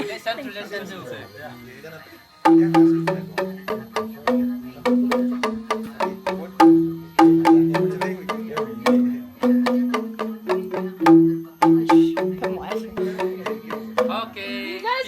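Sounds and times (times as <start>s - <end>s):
tuned percussion melody: 2.4s - 15.0s.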